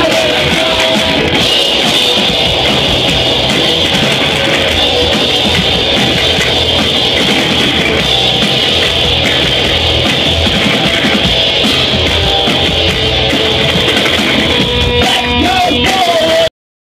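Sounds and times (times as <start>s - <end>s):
drum kit: 0.0s - 16.5s
electric guitars: 0.0s - 16.5s.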